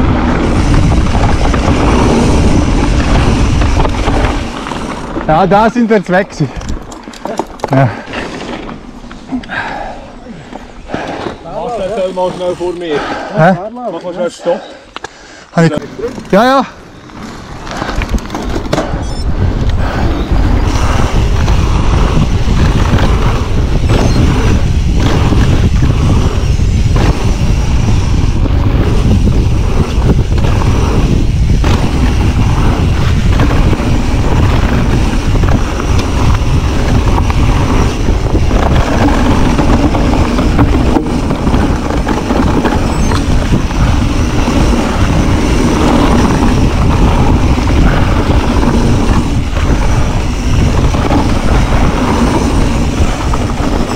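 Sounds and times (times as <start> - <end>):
wind buffeting microphone: 0.0 - 7.1, 15.9 - 53.9
bike rattling over bumps: 0.0 - 9.8, 10.4 - 14.2, 15.7 - 53.9
tyres rumbling over dirt: 0.0 - 13.6, 15.6 - 53.9.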